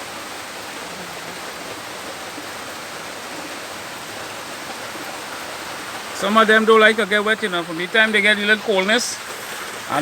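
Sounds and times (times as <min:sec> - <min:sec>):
heavy rain downpour: 0:00.0 - 0:10.0.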